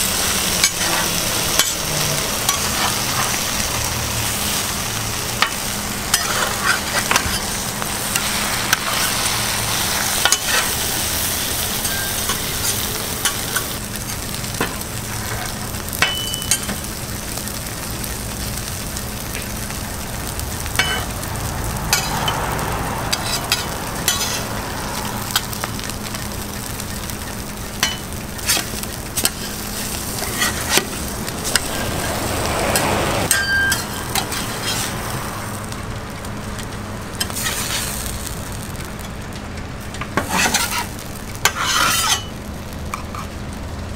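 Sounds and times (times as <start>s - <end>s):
egg and bread sizzling on griddle: 0.0s - 43.9s.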